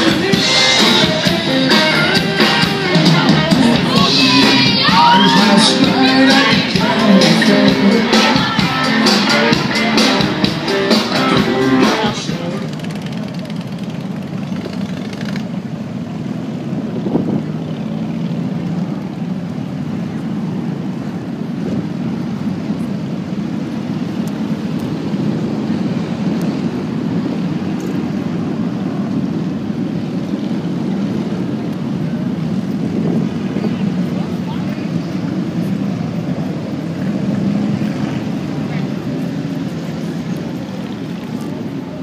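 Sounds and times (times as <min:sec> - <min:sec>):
motorcycle engines rumbling: 0:00.0 - 0:42.0.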